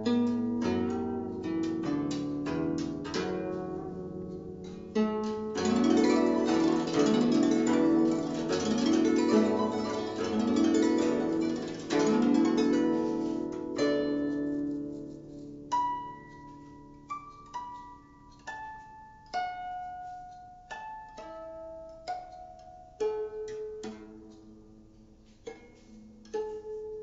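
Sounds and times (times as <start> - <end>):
plucked zither notes: 0.0 - 27.0.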